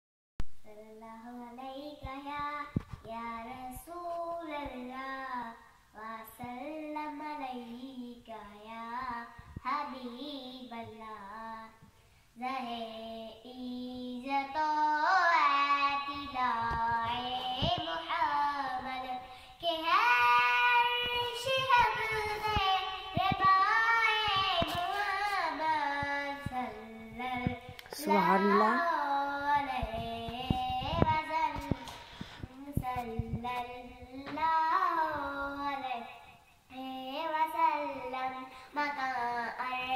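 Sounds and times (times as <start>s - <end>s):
girl singing unaccompanied: 0.4s - 39.9s.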